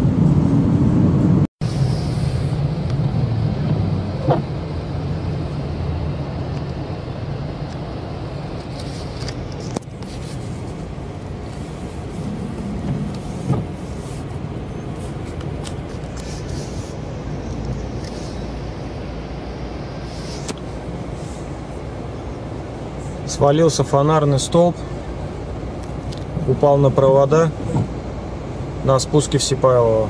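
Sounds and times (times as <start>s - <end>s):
traffic engines running: 0.0s - 30.0s.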